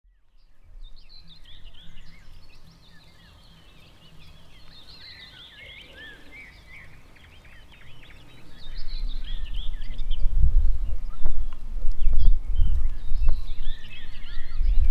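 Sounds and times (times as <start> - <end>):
songbirds chirping and whistling: 0.1 - 14.9.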